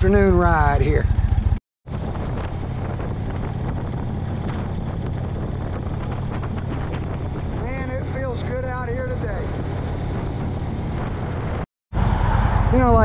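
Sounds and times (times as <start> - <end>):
motorcycle engine running: 0.0 - 13.0
wind on microphone: 1.9 - 13.0.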